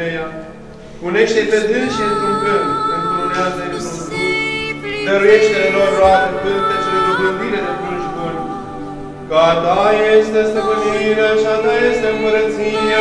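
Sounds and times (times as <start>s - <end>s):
liturgical chanting voices: 0.0s - 13.0s.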